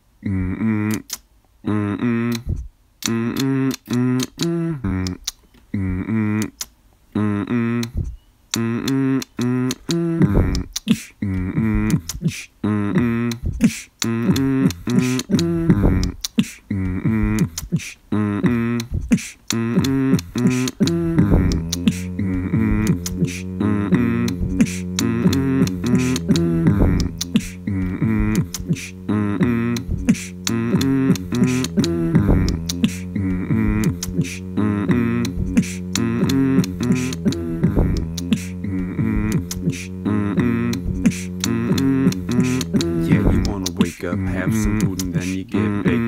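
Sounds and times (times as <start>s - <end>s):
low held hum: 0.0s - 46.0s
man beatboxing: 0.2s - 46.0s.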